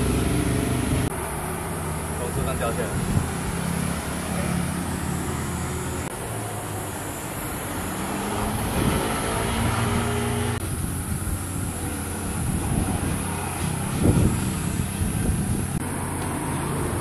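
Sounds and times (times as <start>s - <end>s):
motorcycles passing: 0.0s - 17.0s.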